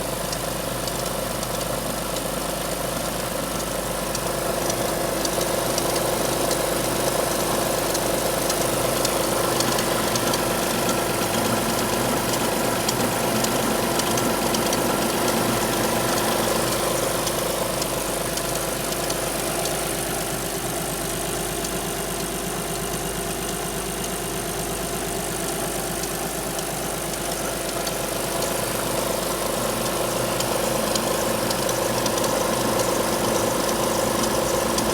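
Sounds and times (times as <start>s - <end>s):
car engine idling: 0.0s - 34.9s
rapid ticking: 3.3s - 22.8s, 24.0s - 34.9s.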